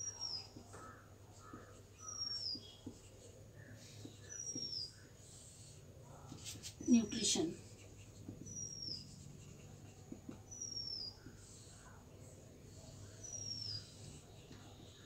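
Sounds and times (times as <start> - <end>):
marker scratching on whiteboard: 0.2 - 15.0.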